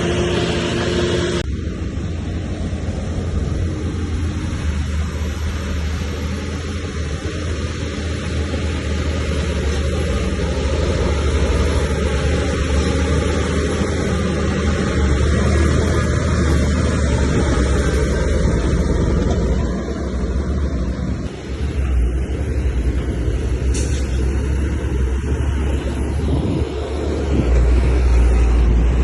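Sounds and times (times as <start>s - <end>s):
diesel machinery rumbling: 0.0s - 29.0s.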